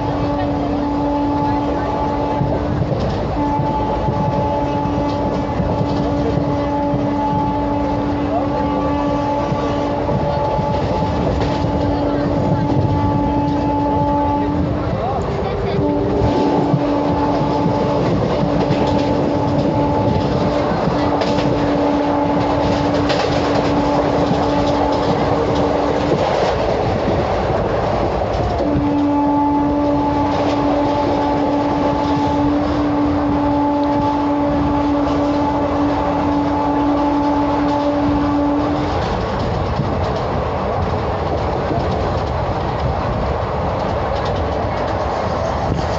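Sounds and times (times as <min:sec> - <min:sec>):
train horn blasts: 0:00.0 - 0:26.7, 0:28.2 - 0:39.9
train wheels on rails: 0:00.0 - 0:45.9.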